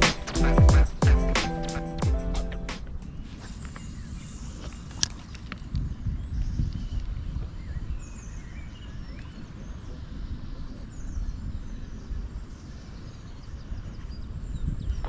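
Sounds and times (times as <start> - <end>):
faint birdsong chirping: 0.0 - 15.0.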